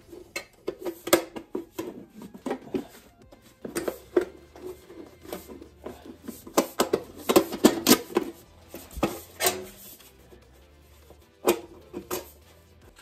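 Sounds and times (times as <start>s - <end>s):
metal pipe clicking and clattering: 0.0s - 3.0s, 3.6s - 10.0s, 11.4s - 12.4s.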